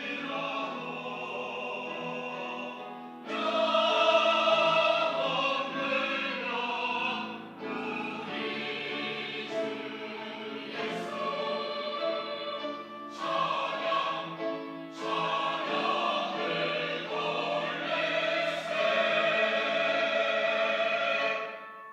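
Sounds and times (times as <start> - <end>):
church choir singing: 0.0 - 21.9.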